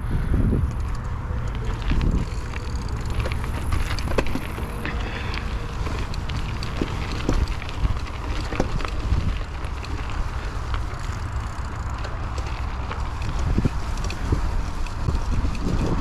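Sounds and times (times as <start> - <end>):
bike tyre rumble: 0.0 - 16.0
wind on microphone: 0.0 - 16.0
bike rattles and knocks: 0.4 - 16.0.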